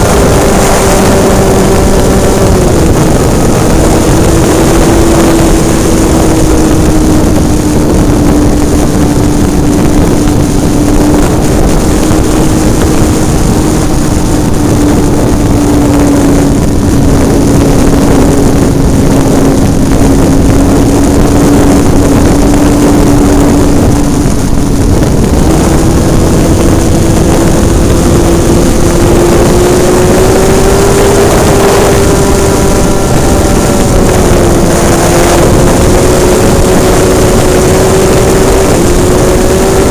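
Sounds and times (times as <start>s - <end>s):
rush of air: 0.0s - 39.9s.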